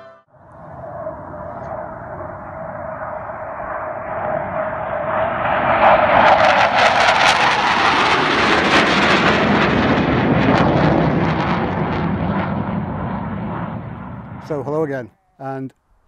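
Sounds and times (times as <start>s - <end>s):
jet roar with crackle: 0.4s - 14.5s.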